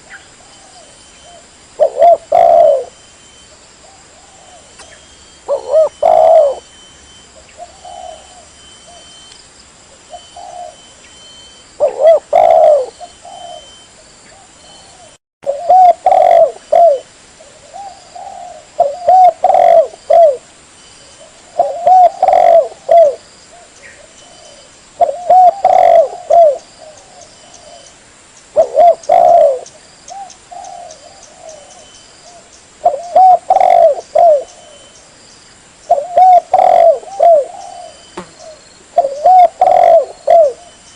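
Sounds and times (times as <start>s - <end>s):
dove cooing: 0.0s - 3.0s, 3.8s - 6.7s, 7.4s - 9.2s, 10.1s - 10.9s, 11.8s - 20.5s, 21.2s - 27.9s, 28.6s - 35.0s, 35.9s - 40.9s.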